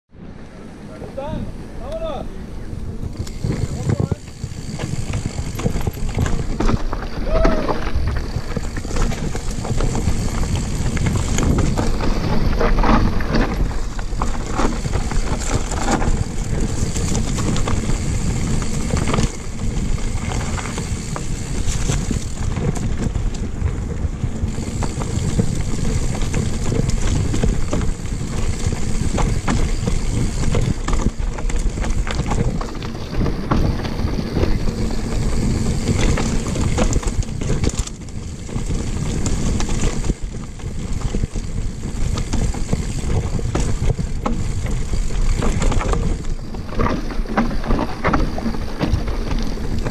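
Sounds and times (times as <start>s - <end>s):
bike rattling and knocking: 2.8s - 49.9s
tyres crunching over stones: 3.1s - 49.9s.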